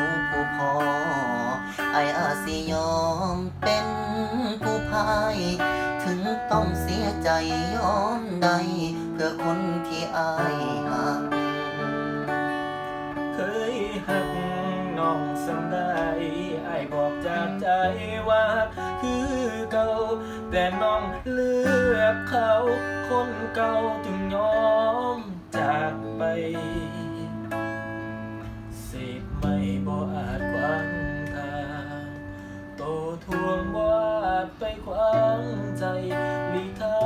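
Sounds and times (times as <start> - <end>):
pop song with electric guitar: 0.0 - 37.0.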